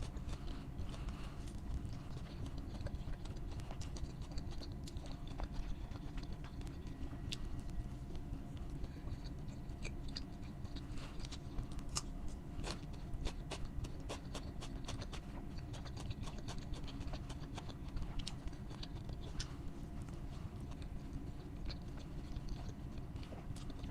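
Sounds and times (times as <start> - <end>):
crunchy chewing: 0.0 - 23.9
steady low hum: 0.0 - 23.9.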